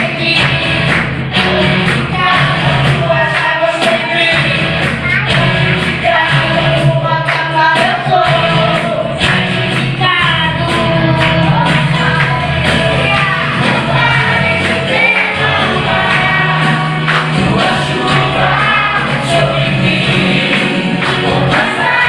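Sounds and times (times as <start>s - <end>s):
children's choir singing: 0.0s - 22.0s
instrumental accompaniment with bass: 0.0s - 22.0s.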